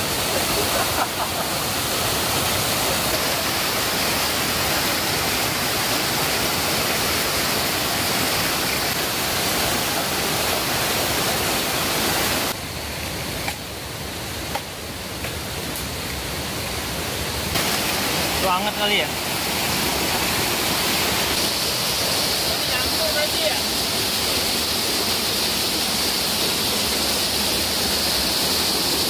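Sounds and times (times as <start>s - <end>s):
waterfall rushing over rocks: 0.0s - 29.0s.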